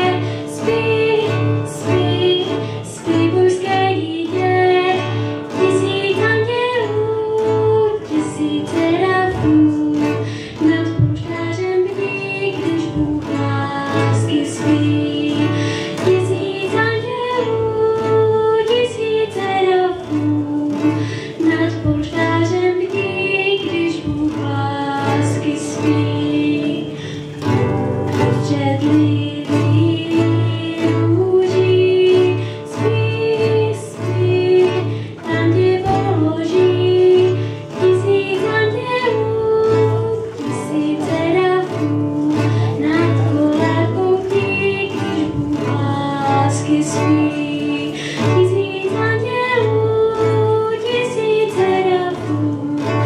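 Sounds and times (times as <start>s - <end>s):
acoustic guitar: 0.0s - 53.0s
girl singing into a microphone: 0.0s - 53.0s.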